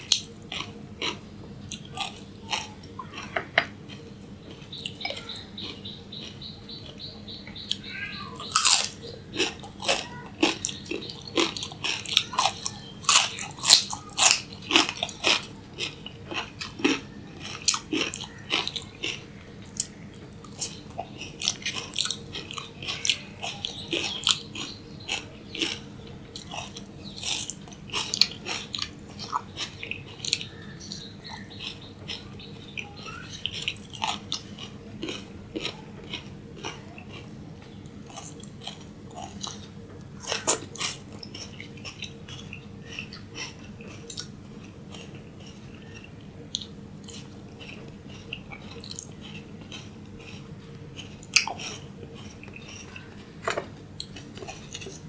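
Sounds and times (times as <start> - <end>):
crunchy chewing of raw vegetables: 0.0 - 55.0.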